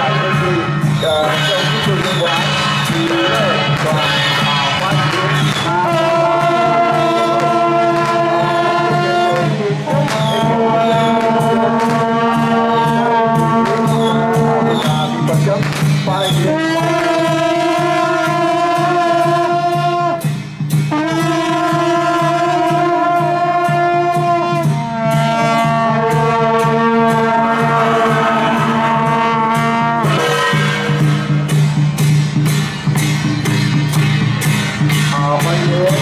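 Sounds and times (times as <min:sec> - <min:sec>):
brass horns blowing long notes: 0:00.0 - 0:33.1
even beat: 0:00.0 - 0:36.0.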